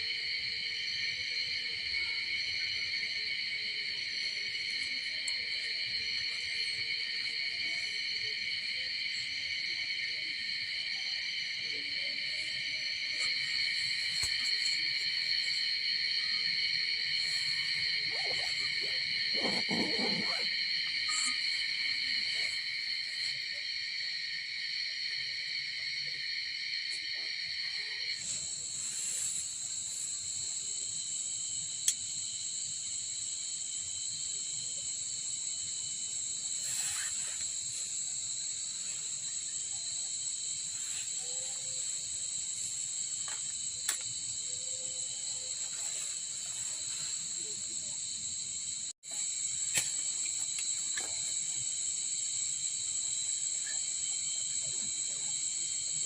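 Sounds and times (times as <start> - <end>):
insects buzzing chorus: 0.0 - 56.0.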